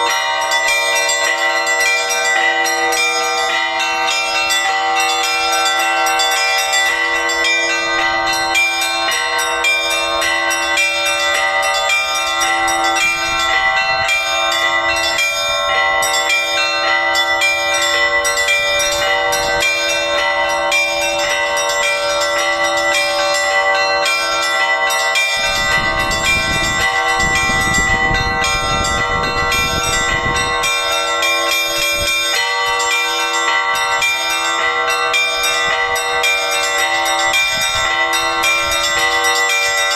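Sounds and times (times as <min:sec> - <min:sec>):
large church bells ringing: 0:00.0 - 0:39.9
small high church bells: 0:00.0 - 0:39.9.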